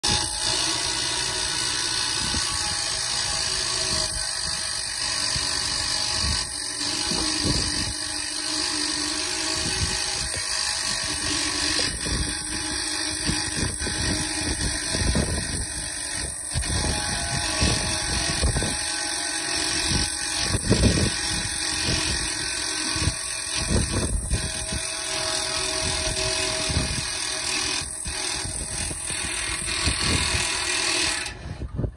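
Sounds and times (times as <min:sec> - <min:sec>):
electric winch motor running: 0:00.0 - 0:31.9.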